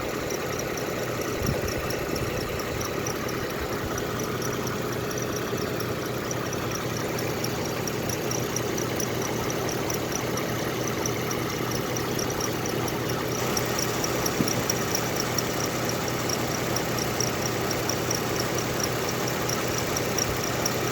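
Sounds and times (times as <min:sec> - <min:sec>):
car engine idling: 0:00.0 - 0:20.9
fast even ticking: 0:00.0 - 0:20.9.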